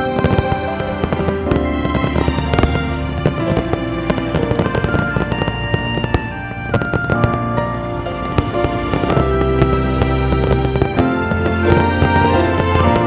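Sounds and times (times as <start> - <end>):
background music: 0.0 - 13.0
fireworks bursting and crackling: 0.0 - 13.0.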